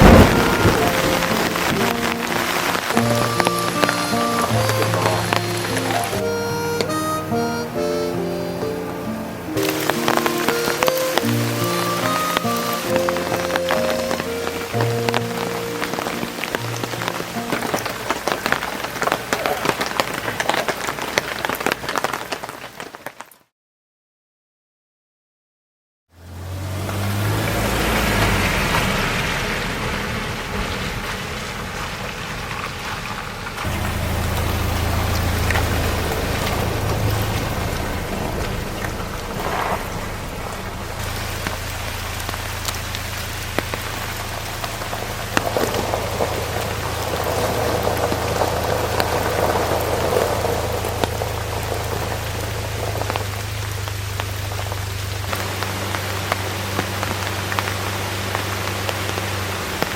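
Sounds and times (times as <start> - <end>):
heavy rain pouring: 0.0 - 23.4, 26.2 - 59.9.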